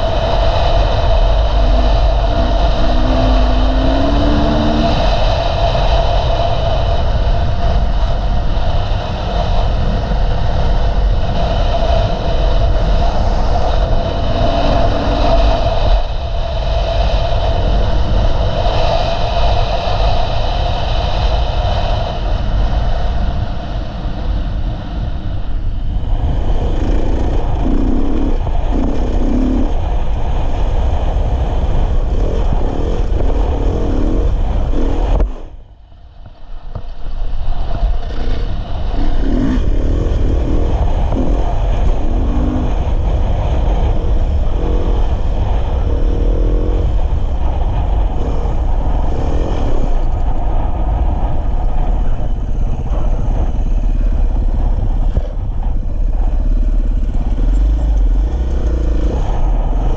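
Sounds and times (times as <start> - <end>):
dirt bike engine running: 0.0 - 18.8, 23.1 - 59.9.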